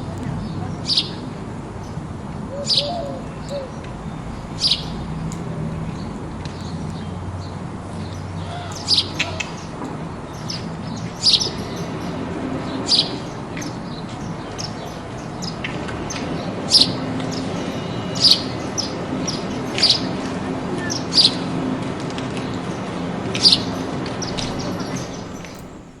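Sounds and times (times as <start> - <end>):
sparrows chirping: 0.0 - 26.0
steady low hum: 0.0 - 26.0.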